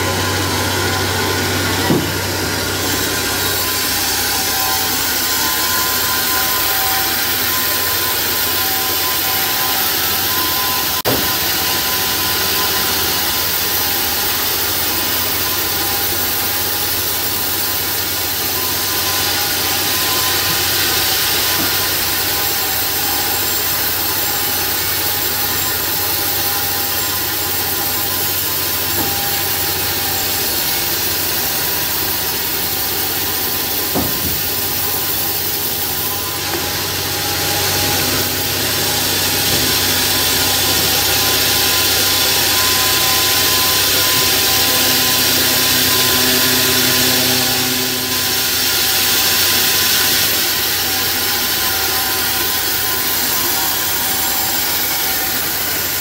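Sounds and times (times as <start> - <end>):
bandsaw sawing through log: 0.0 - 56.0.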